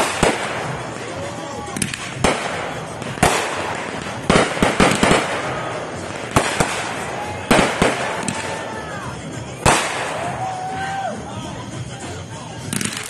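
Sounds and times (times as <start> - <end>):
fireworks bangs: 0.0 - 11.0
fireworks crackling: 0.0 - 13.0
fireworks cracks: 0.0 - 13.0.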